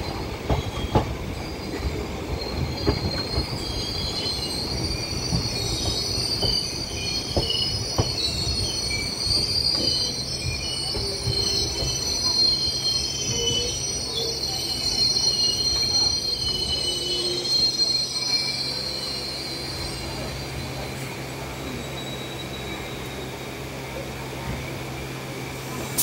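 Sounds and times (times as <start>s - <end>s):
low rumble of running train: 0.0s - 26.0s
train wheels squealing on rails: 0.0s - 26.0s.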